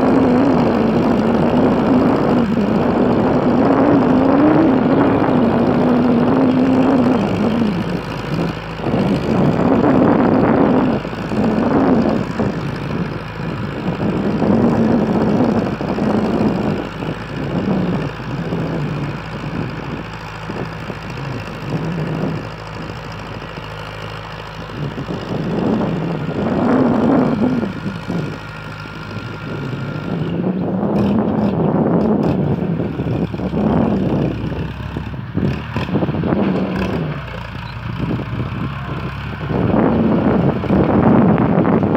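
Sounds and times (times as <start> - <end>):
tractor diesel engine under load: 0.0 - 41.9.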